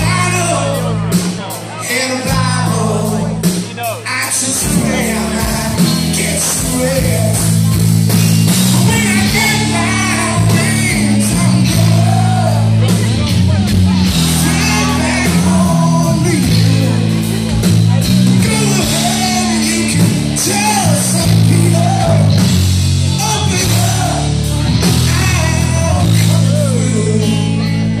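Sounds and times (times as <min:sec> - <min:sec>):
live rock band playing: 0:00.0 - 0:28.0
man singing: 0:00.0 - 0:28.0.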